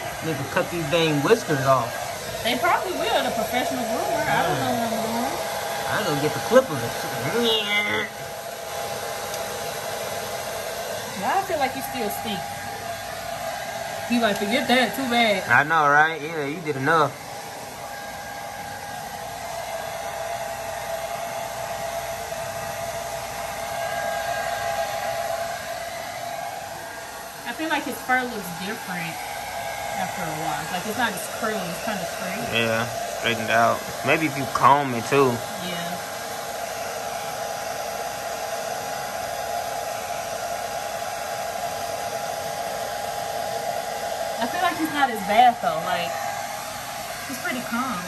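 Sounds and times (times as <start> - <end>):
hair dryer running: 0.0 - 48.0.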